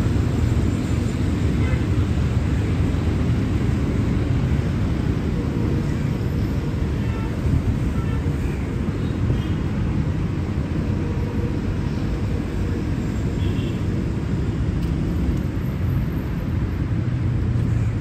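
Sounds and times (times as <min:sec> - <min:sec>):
city ambience low rumble: 0:00.0 - 0:18.0.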